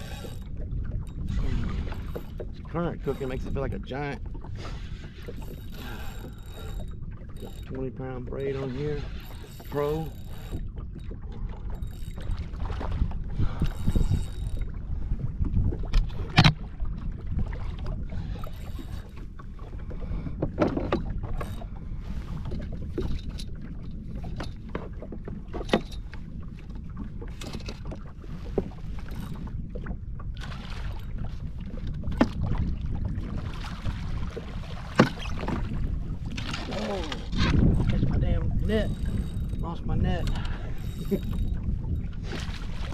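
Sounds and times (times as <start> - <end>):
water lapping against hull: 0.0 - 42.9.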